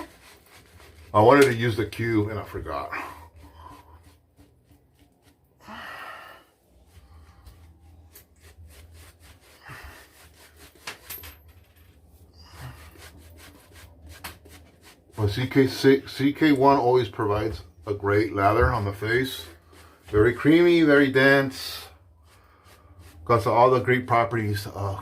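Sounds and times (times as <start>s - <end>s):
shaving brush scrubbing lather: 0.0s - 5.6s, 6.6s - 10.9s, 12.4s - 25.0s.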